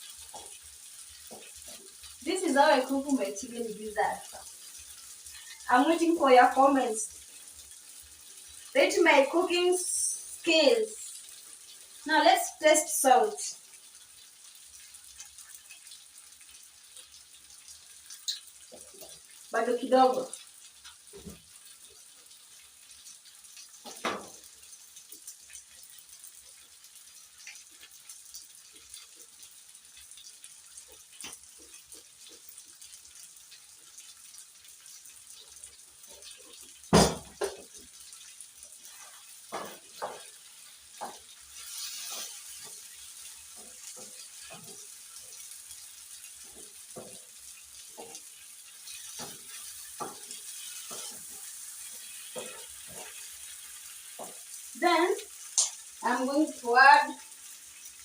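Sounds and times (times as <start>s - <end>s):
food sizzling in a pot: 0.0s - 58.0s.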